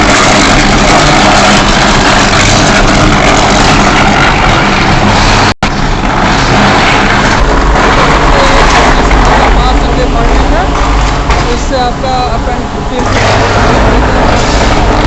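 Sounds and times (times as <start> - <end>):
arc furnace rushing noise: 0.0 - 15.0
low electrical hum: 0.0 - 15.0.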